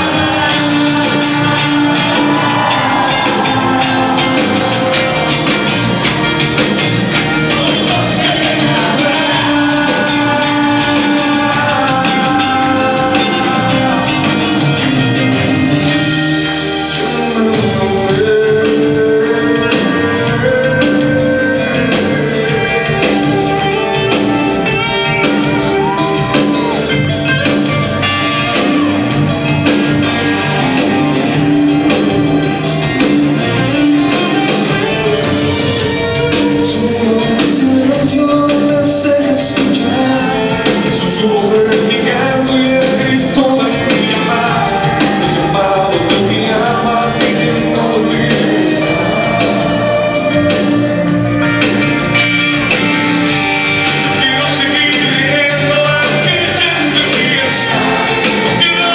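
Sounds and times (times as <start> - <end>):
live band playing: 0.0 - 58.9
person singing: 0.0 - 58.9.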